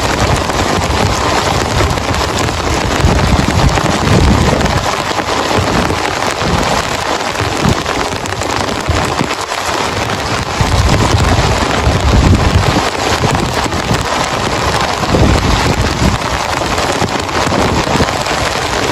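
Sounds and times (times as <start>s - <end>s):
deep uneven rumble: 0.0s - 18.9s
heavy rain pelting down: 0.0s - 18.9s.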